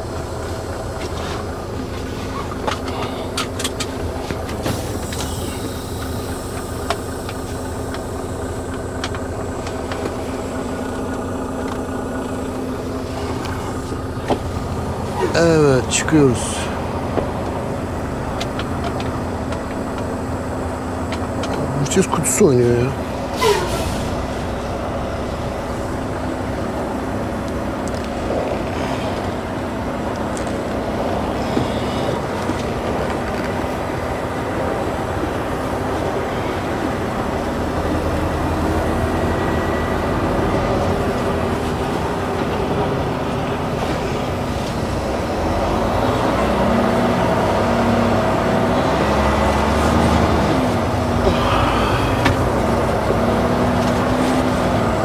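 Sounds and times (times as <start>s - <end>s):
road noise: 0.0s - 55.0s
truck diesel engine: 0.0s - 55.0s.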